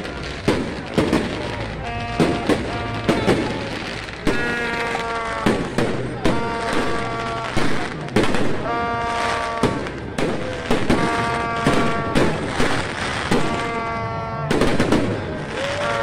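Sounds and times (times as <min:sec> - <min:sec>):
crowd noise: 0:00.0 - 0:16.0
fireworks bursting: 0:00.0 - 0:16.0
buzzing horn blasts: 0:01.2 - 0:15.0.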